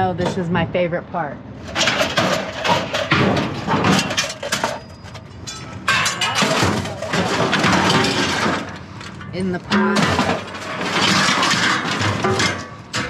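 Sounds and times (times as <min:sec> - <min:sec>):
scrap metal clattering and scraping: 0:01.6 - 0:13.0.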